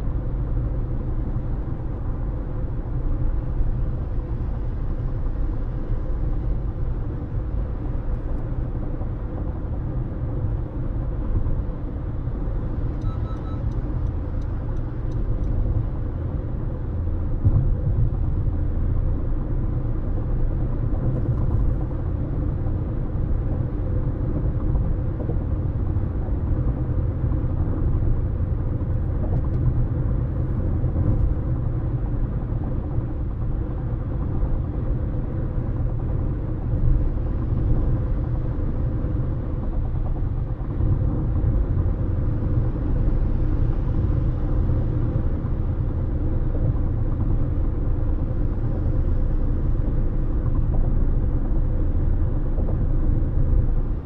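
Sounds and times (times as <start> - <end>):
road and tyre noise: 0.0 - 54.0.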